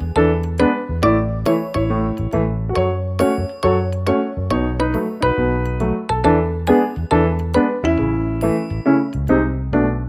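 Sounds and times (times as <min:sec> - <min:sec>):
chiming melody with bass: 0:00.0 - 0:10.0.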